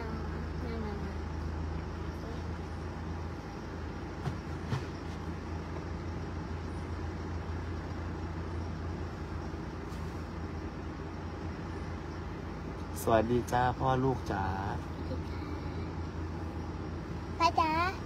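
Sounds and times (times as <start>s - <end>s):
car engine rumble inside cabin: 0.0s - 18.0s
road noise: 0.0s - 18.0s.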